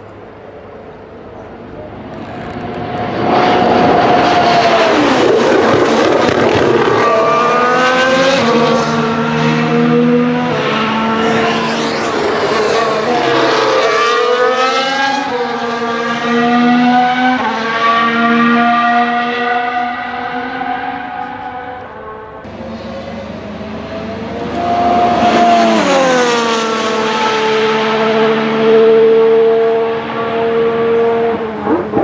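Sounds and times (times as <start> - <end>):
racing car engine accelerating: 2.0 - 32.0.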